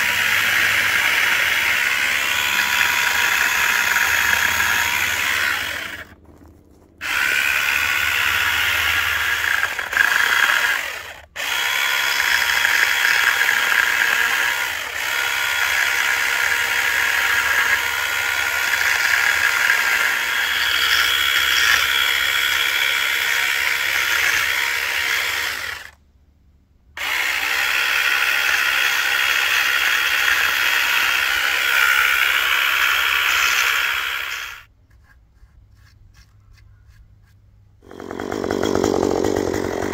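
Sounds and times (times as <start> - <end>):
electric chainsaw cutting wood: 0.0 - 6.2, 7.0 - 26.0, 27.0 - 34.7, 37.8 - 39.9.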